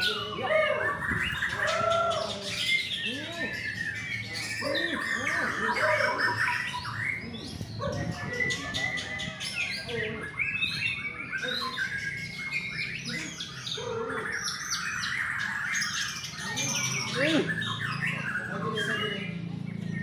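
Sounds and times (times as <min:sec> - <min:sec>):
birds singing whistles and trills: 0:00.0 - 0:20.0.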